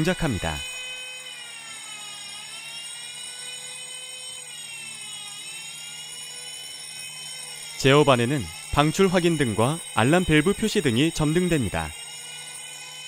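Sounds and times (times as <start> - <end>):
fire alarm bell ringing: 2.1 - 13.0.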